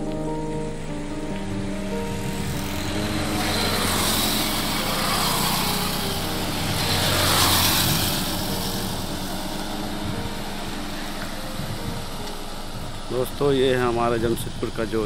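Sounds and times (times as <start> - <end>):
road and wind rush: 0.0 - 15.0
vehicle engine running: 0.0 - 15.0.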